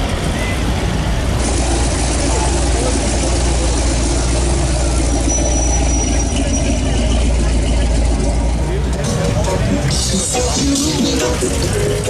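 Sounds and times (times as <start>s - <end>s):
car engines idling in traffic: 0.0s - 12.0s.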